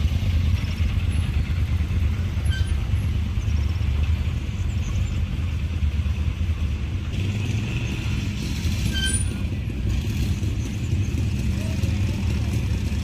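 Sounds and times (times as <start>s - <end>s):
cars rolling past engine rumble: 0.0s - 13.0s.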